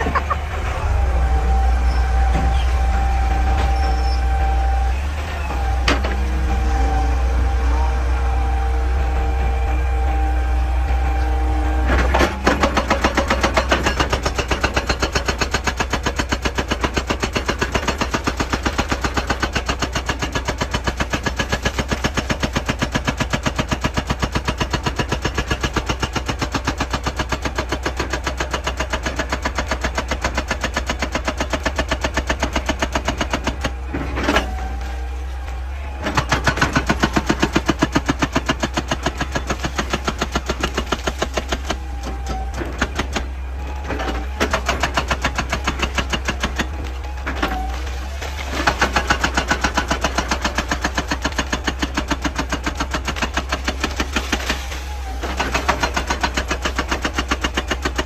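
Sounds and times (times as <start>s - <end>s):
excavator engine hum: 0.0s - 58.0s
hydraulic breaker hammering rock: 0.0s - 58.0s.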